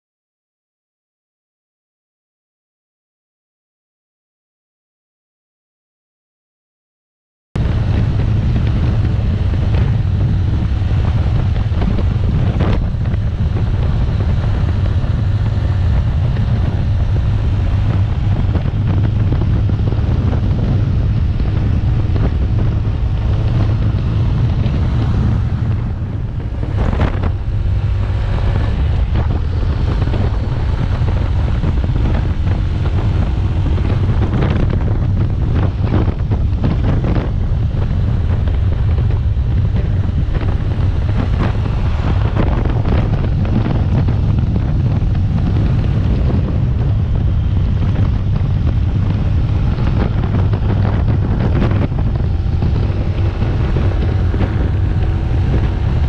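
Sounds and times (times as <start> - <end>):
motorcycle engine running: 7.6 - 56.0
wind buffeting microphone: 7.6 - 56.0.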